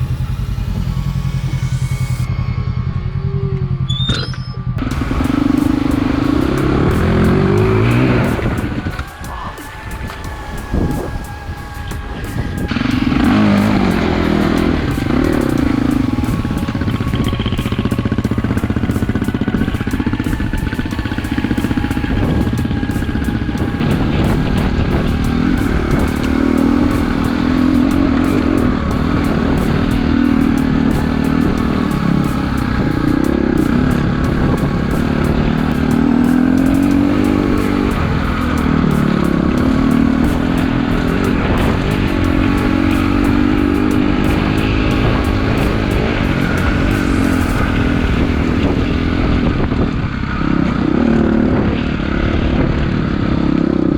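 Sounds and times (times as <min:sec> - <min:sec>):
dirt bike engine revving: 0:04.7 - 0:53.9.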